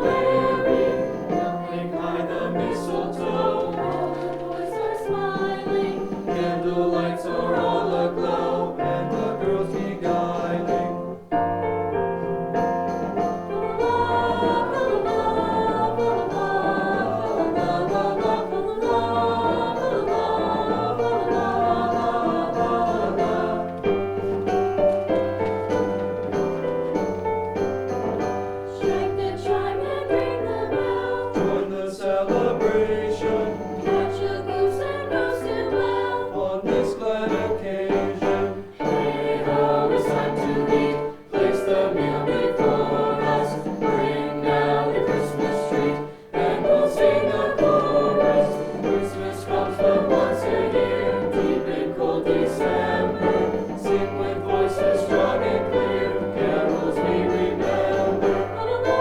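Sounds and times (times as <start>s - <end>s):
choir singing christmas song: 0.0s - 59.0s.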